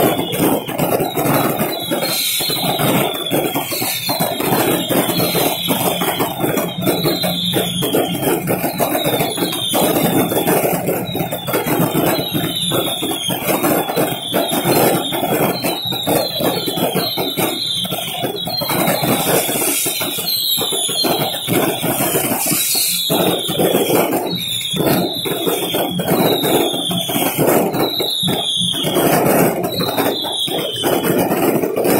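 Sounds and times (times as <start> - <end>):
fireworks crackling and banging: 0.0 - 31.9
fireworks whistling: 0.0 - 31.9.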